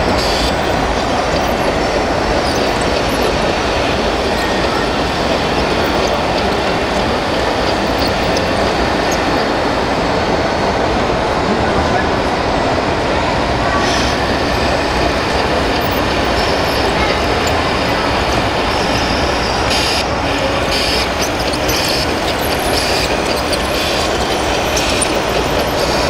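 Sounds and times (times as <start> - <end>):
mechanical running noise: 0.0 - 9.8, 13.8 - 26.0.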